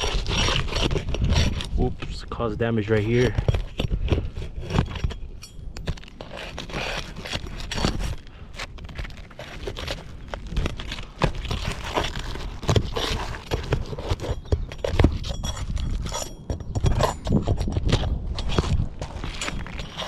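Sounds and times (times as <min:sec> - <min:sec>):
shingles scraping and crackling: 0:00.0 - 0:20.0.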